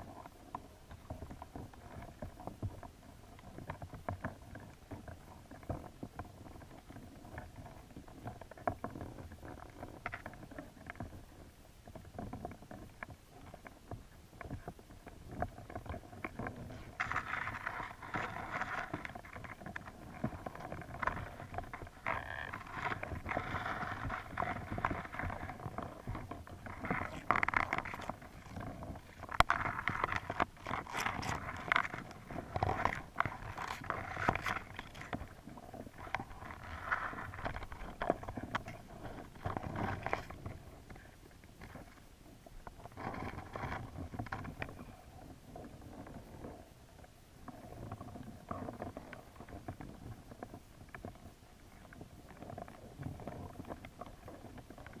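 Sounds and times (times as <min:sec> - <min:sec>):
muffled underwater water wash: 0:00.0 - 0:55.0
small knocks and scrapes: 0:00.0 - 0:55.0.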